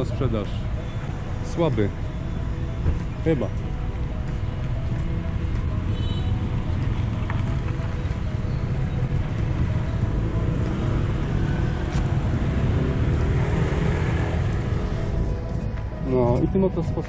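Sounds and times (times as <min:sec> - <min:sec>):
background music: 0:00.0 - 0:17.0
traffic rumble: 0:00.0 - 0:17.0.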